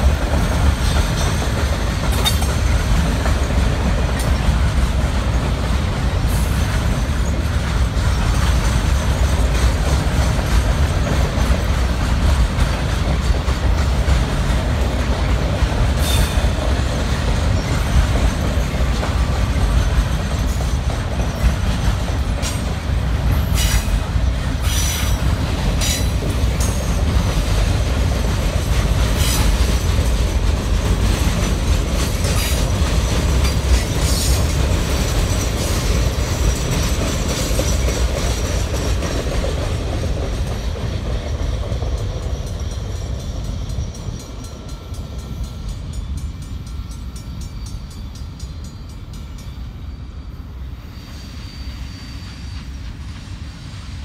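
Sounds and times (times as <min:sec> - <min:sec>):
rail trailers rumbling past: 0:00.0 - 0:54.0
wheels clicking and squealing on rails: 0:00.0 - 0:54.0.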